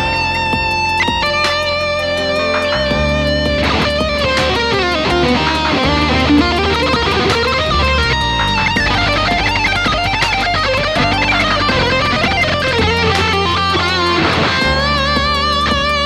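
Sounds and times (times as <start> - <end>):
bass and drums backing track: 0.0 - 16.0
electric guitar lead: 0.0 - 16.0.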